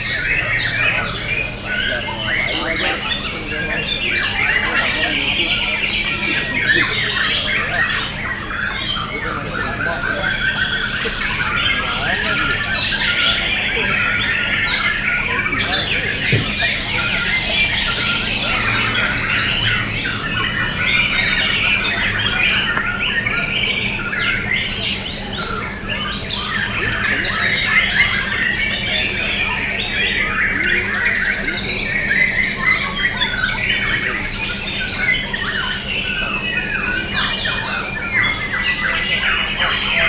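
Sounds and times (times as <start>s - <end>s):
other songbirds singing: 0.0s - 40.0s
songbird singing varied song: 0.0s - 40.0s.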